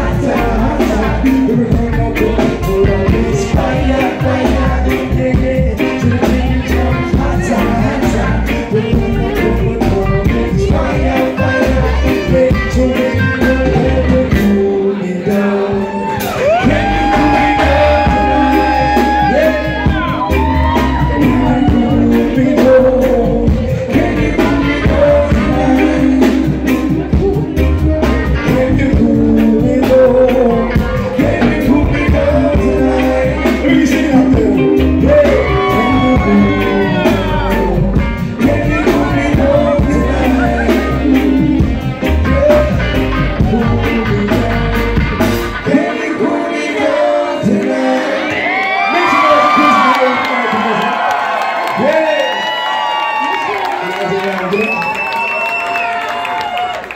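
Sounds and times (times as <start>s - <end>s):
person singing long notes: 0.0s - 49.7s
reggae band playing: 0.0s - 56.9s.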